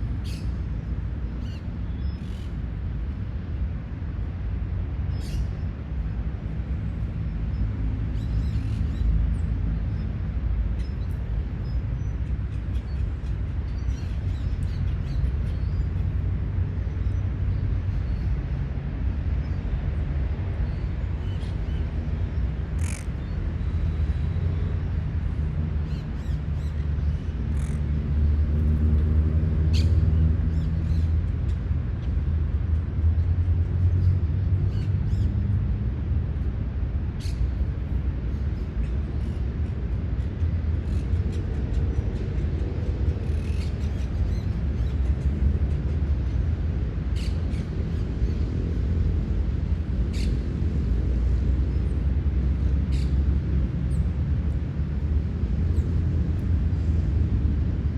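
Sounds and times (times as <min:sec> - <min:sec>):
low rumble of road traffic: 0:00.0 - 0:57.9.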